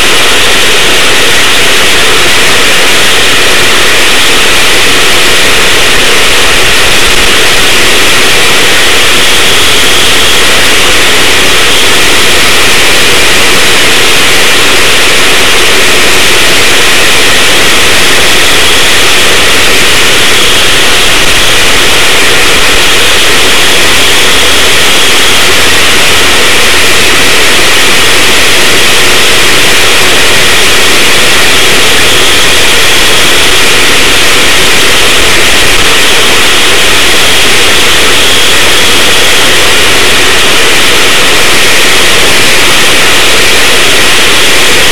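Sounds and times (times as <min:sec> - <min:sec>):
distorted go-kart engine: 0:00.0 - 0:44.9
wind rush: 0:00.0 - 0:44.9.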